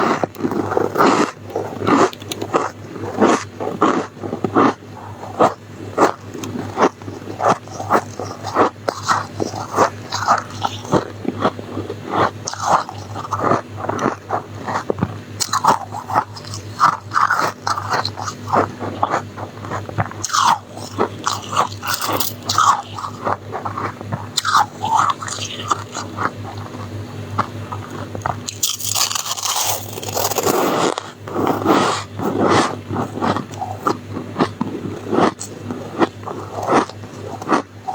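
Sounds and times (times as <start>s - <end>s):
person crunching ice: 0.0s - 26.8s, 27.4s - 37.9s.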